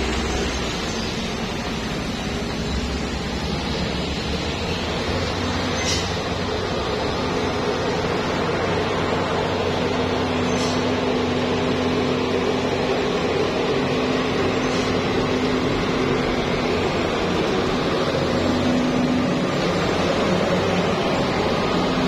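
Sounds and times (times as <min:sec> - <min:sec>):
heavy truck engine running: 0:00.0 - 0:22.0
road and wind noise: 0:00.0 - 0:22.0.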